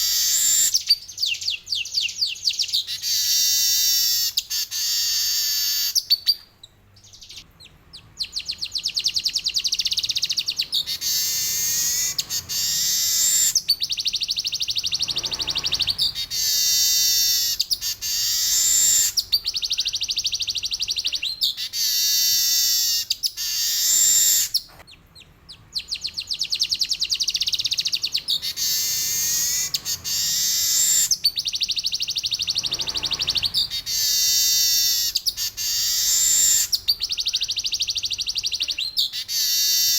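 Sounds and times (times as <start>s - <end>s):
weaver bird buzzy trills: 0.0s - 7.5s, 8.2s - 24.8s, 25.7s - 39.9s.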